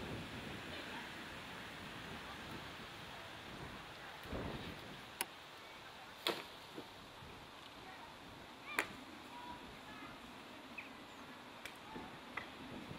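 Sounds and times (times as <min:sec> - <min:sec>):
street ambience: 0:00.0 - 0:12.9.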